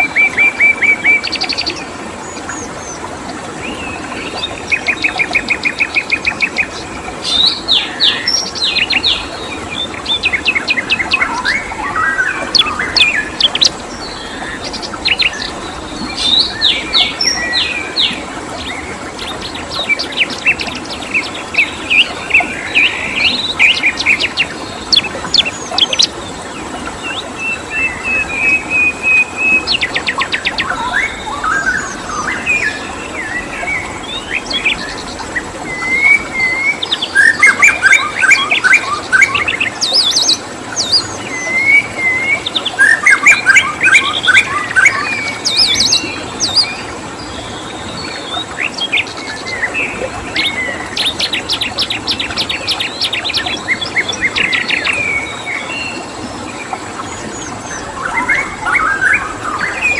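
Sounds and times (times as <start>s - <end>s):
running water hiss: 0.0s - 59.9s
songbirds chirping and singing: 3.6s - 59.9s.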